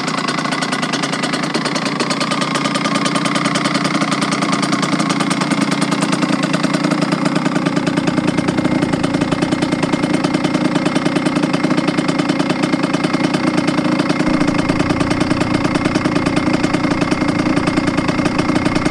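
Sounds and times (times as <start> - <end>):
two-stroke engine idling: 0.0 - 18.9.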